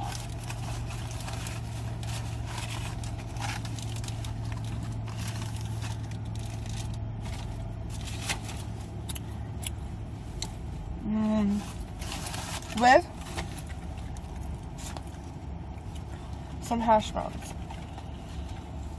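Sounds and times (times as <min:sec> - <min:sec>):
car engine hum inside cabin: 0:00.0 - 0:18.9.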